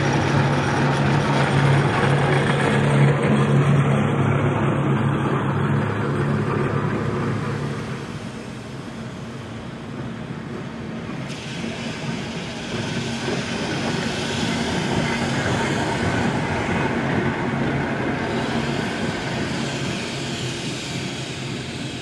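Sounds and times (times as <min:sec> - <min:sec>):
electric tram humming past: 0:00.0 - 0:22.0.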